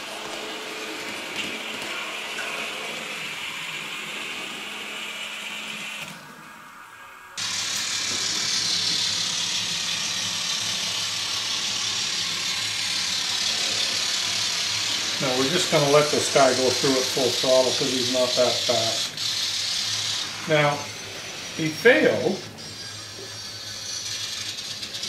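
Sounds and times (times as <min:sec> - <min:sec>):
model diesel locomotive running: 0:00.0 - 0:06.2, 0:07.4 - 0:25.0.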